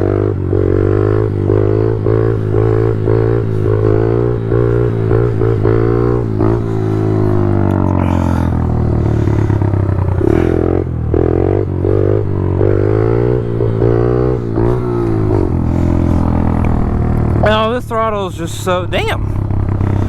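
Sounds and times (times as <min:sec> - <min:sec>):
pit bike engines revving: 0:00.0 - 0:20.0.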